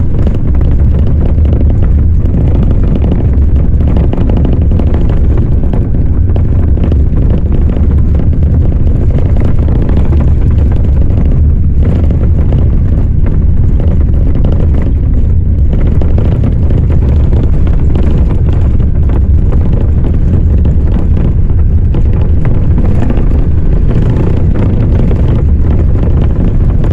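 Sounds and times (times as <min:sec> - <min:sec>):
moving vehicle noise: 0:00.0 - 0:26.9
wind buffeting microphone: 0:00.0 - 0:26.9.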